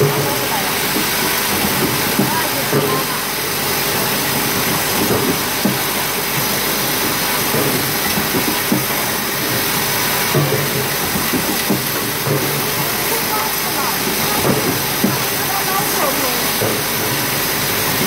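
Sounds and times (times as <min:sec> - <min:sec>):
spot welder running: 0:00.0 - 0:18.0.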